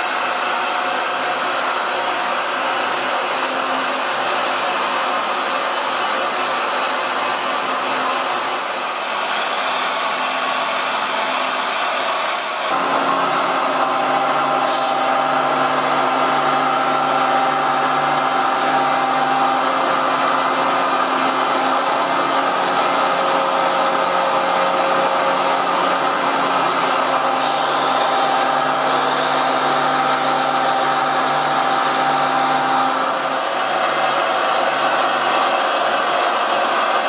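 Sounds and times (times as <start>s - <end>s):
electric motors whining: 1.0s - 34.0s.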